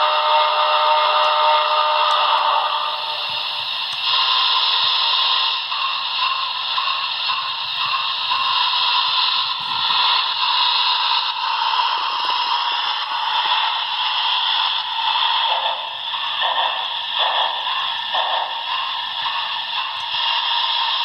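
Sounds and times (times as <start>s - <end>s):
steam hissing from small speaker: 0.0s - 21.0s
uneven steam pulses: 0.0s - 21.0s.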